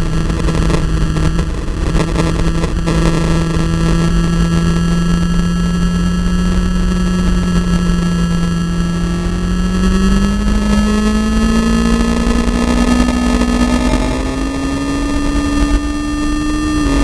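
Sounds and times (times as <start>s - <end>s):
racing engine high pitch: 0.0s - 17.0s
wind noise on microphone: 0.0s - 17.0s.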